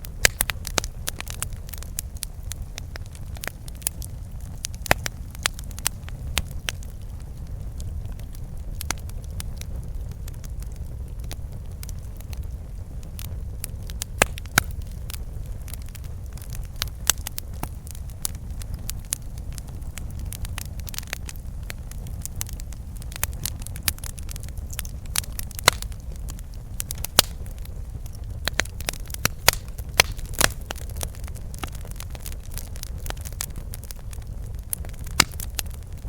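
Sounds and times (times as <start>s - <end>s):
crackling pops of burning wood: 0.0s - 36.0s
low rumble of flames: 0.0s - 36.0s.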